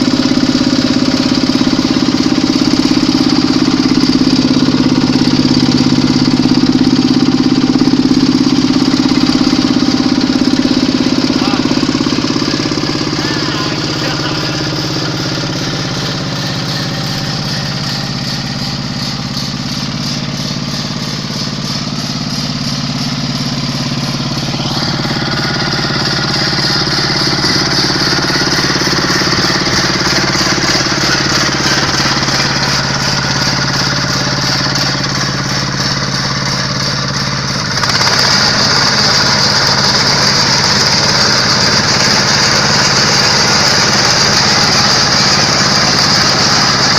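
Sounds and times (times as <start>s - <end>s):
diesel engine with mechanical whirring: 0.0s - 46.9s.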